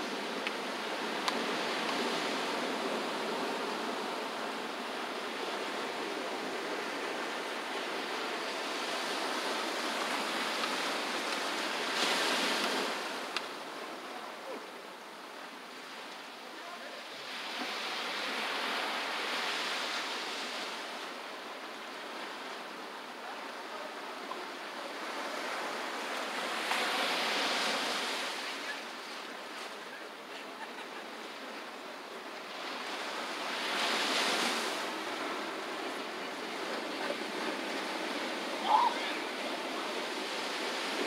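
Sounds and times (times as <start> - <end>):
surf breaking on beach: 0.0 - 14.8, 15.5 - 41.0.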